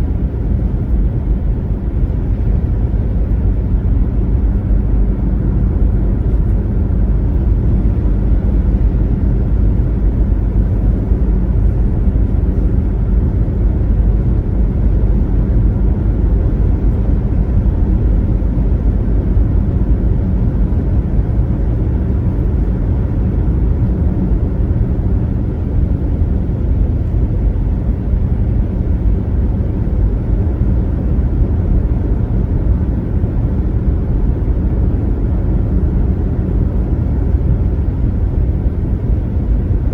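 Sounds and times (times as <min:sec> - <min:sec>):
engine drone: 0:00.0 - 0:39.9
road and tyre rumble: 0:00.0 - 0:39.9.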